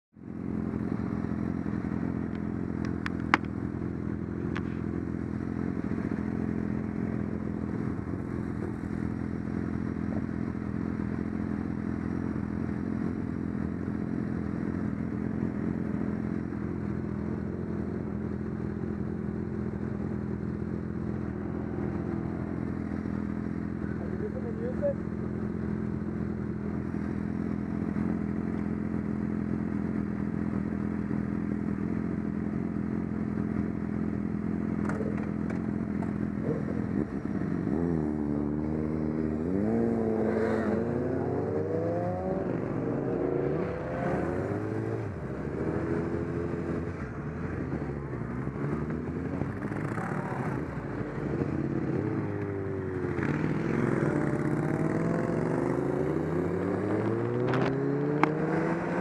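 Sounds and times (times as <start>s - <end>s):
motorcycle engines idling: 0.2s - 56.3s
motorcycles accelerating: 0.3s - 59.0s.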